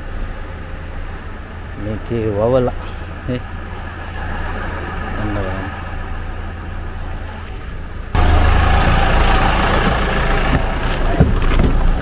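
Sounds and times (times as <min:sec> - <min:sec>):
minibus engine idling: 0:00.0 - 0:12.0.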